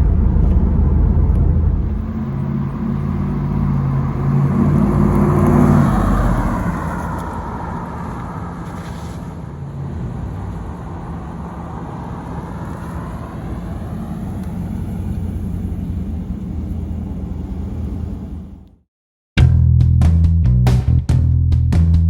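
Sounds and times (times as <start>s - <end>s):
car engine running: 0.0s - 18.7s
road and tyre noise: 0.0s - 18.9s.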